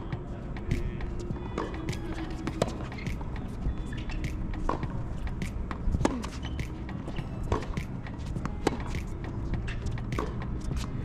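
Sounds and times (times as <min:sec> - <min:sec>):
tennis ball struck by racquets: 0:01.5 - 0:11.0.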